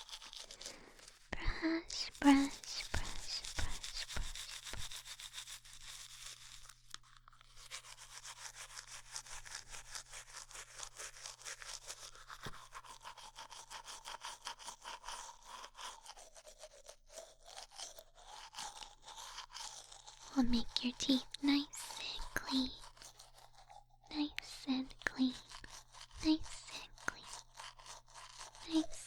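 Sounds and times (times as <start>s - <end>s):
brush scrubbing back and forth: 0.0s - 29.0s.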